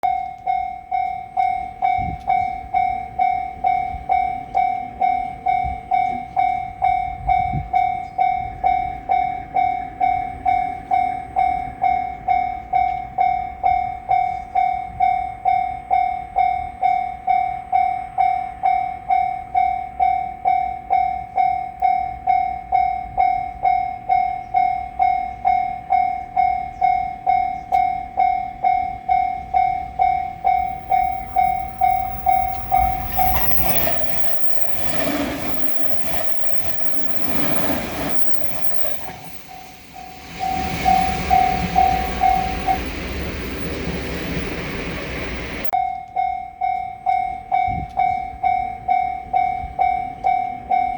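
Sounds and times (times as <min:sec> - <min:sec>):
level crossing warning bell: 0:00.0 - 0:50.9.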